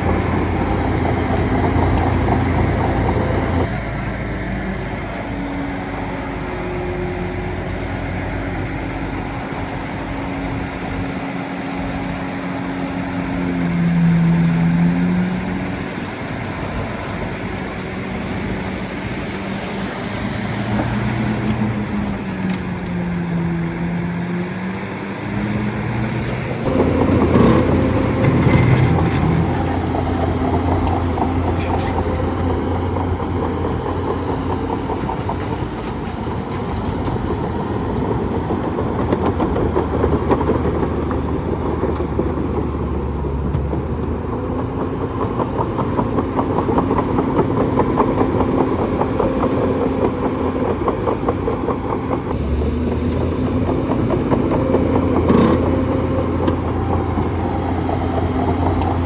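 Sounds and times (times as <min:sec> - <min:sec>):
bulldozer engine running: 0:00.0 - 0:59.0.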